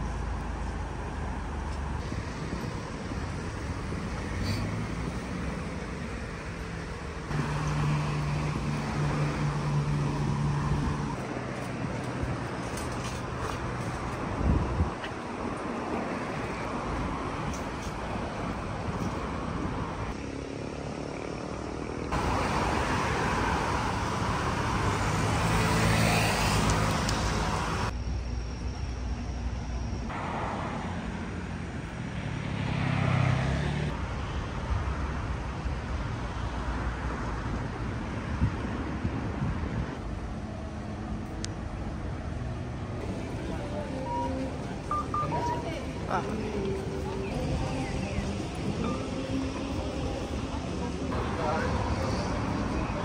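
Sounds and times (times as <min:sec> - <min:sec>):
hum of passing cars: 0:00.0 - 0:53.0.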